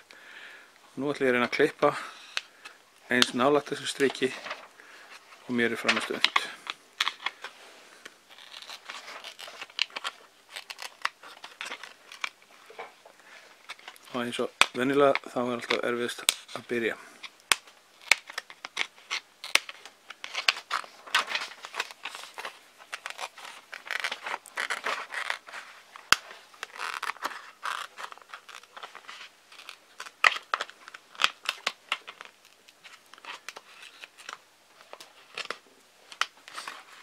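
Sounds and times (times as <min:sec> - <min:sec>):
stiff plastic crackling: 0:01.4 - 0:37.0.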